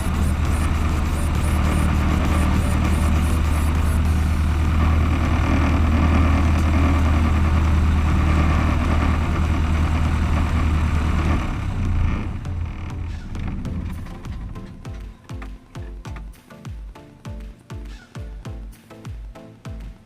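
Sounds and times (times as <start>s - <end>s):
light aircraft engine running: 0.0s - 16.2s.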